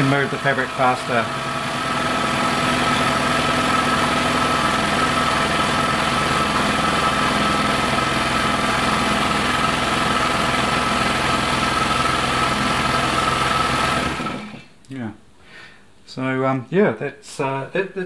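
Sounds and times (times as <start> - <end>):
sewing machine running: 0.0 - 14.6.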